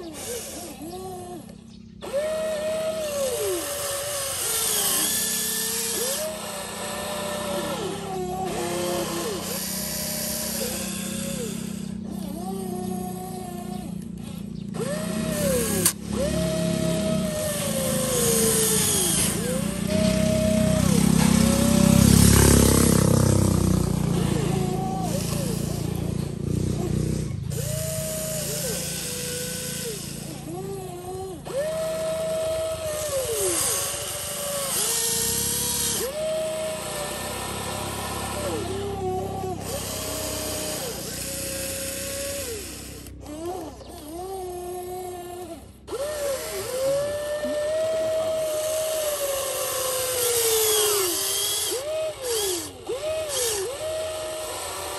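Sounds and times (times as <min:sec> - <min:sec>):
electric motors whining: 0:00.0 - 0:54.9
steady low buzz: 0:00.0 - 0:54.9.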